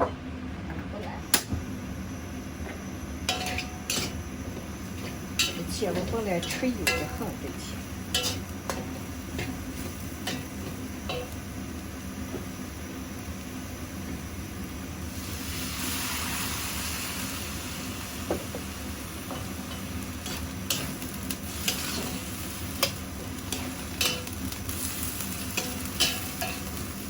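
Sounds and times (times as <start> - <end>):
eggplant sizzling in hot oil: 2.2 - 27.0.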